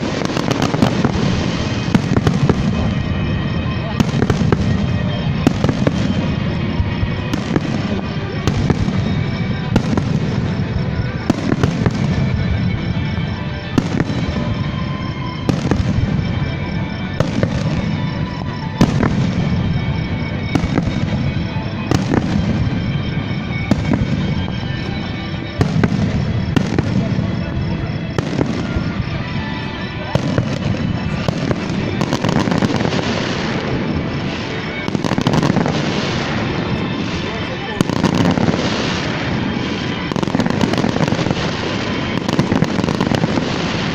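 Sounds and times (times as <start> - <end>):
fireworks bursting with bangs: 0.0 - 43.9
music playing: 0.0 - 43.9.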